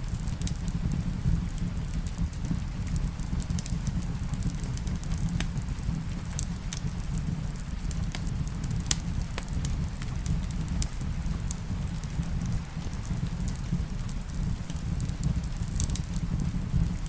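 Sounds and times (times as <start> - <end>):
steady rain rumble: 0.0 - 17.0
wood fire crackling and popping: 0.0 - 17.0.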